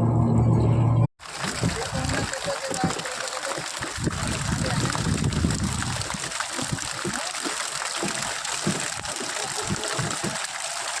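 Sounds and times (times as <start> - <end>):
water splashing and trickling: 1.2 - 11.0.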